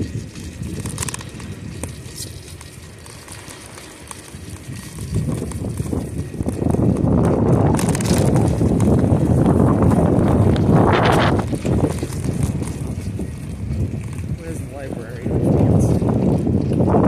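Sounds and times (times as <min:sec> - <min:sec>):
bicycle tyre rumble on pavement: 0:00.0 - 0:17.0
wind buffeting microphone: 0:00.0 - 0:17.0.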